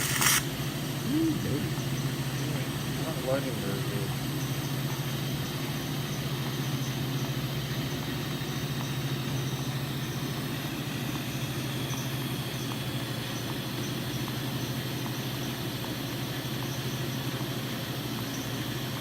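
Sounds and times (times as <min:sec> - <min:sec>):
welder humming and hissing: 0:00.0 - 0:19.0.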